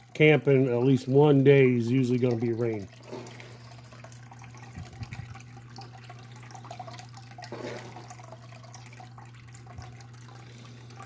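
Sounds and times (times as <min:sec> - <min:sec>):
steady low hum: 0:00.0 - 0:11.0
water running and trickling: 0:00.0 - 0:11.0.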